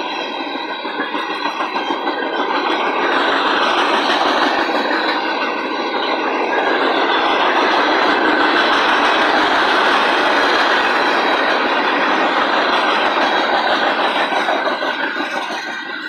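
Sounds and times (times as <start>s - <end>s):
train wheels rolling on rails: 0.0s - 16.0s.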